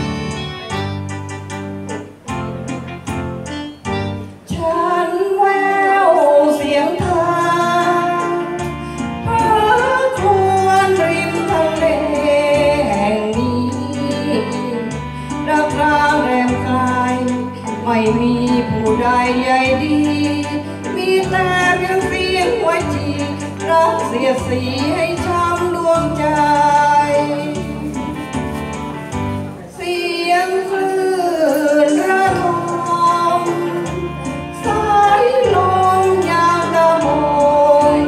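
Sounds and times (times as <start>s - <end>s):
keyboard backing track: 0.0s - 38.0s
woman singing into microphone: 4.4s - 28.7s, 29.4s - 38.0s.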